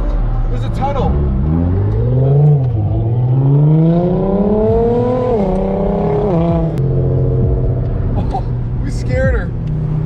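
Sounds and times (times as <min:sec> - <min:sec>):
car engine accelerating in tunnel: 0:00.1 - 0:10.0.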